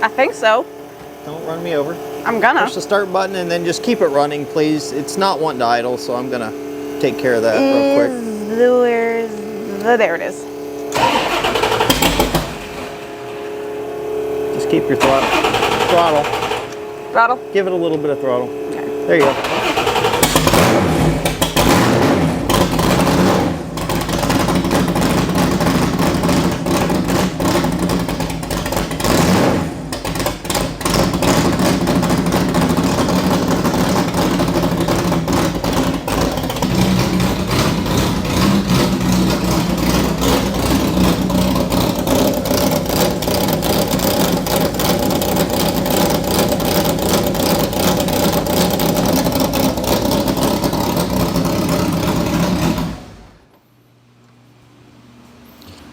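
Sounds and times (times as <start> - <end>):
car engine running: 0.0 - 53.5.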